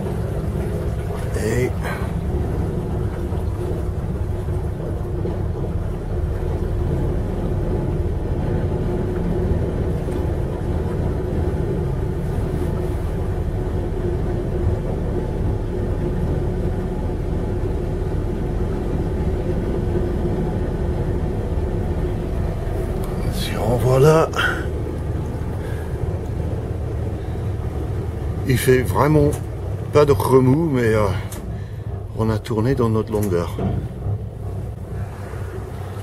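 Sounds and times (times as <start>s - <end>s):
boat engine rumbling: 0.0s - 36.0s.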